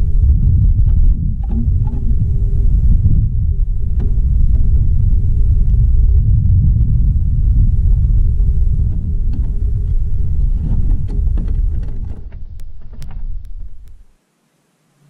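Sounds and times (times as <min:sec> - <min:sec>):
wind buffeting microphone: 0:00.0 - 0:14.1
faint steady hum: 0:00.0 - 0:15.0.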